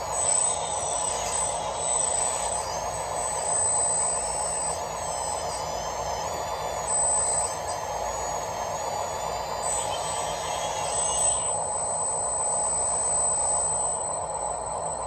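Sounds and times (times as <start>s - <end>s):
electric motors whirring: 0.0s - 15.0s
high wavering whine: 0.0s - 15.0s.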